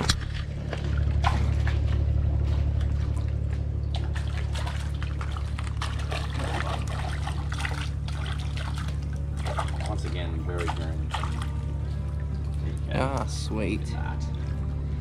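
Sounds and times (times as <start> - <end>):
small splashes: 0.0 - 13.4
low rumble: 0.0 - 15.0
water trickling and lapping: 0.0 - 15.0.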